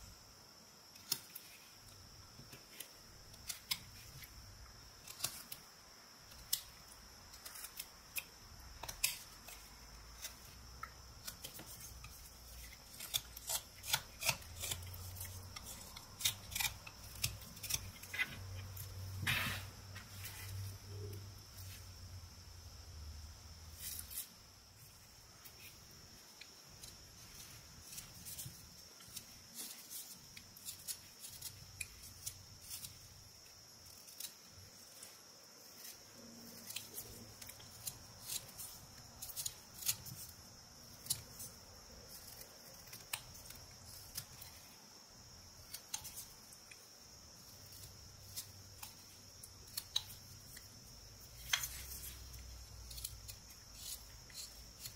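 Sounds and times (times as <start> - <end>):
faint high-pitched whine: 0.0 - 54.9
knife whittling wood: 5.0 - 22.0, 23.7 - 44.8, 47.4 - 54.9.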